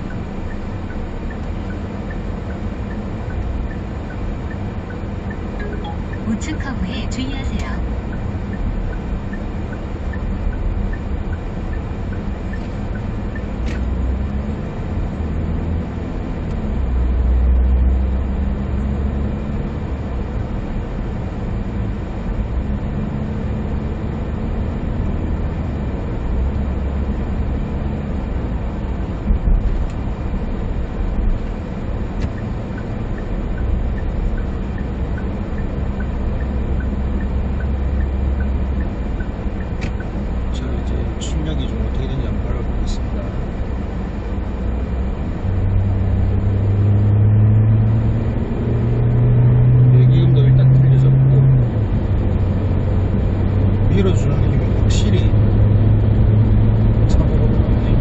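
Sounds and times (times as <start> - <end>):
diesel engine and road noise: 0.0 - 58.0.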